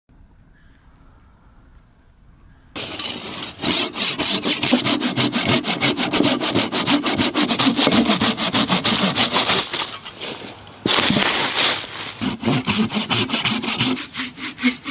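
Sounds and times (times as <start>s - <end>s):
hand saw cutting wood: 2.8s - 14.9s.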